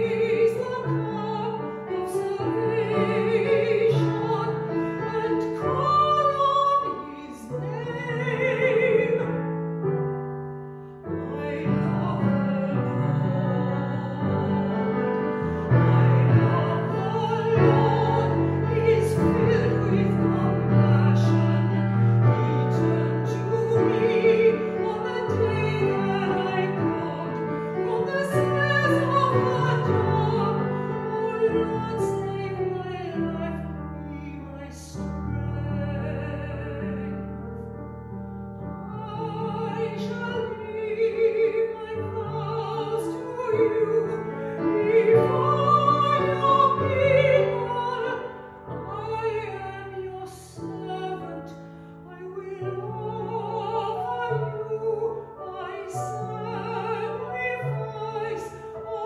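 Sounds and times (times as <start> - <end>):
classical solo singing: 0.0 - 10.2, 10.8 - 59.0.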